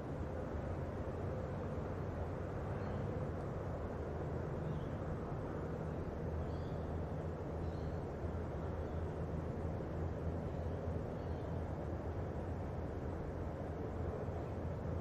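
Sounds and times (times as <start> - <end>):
distant locomotive engine drone: 0.0 - 15.0.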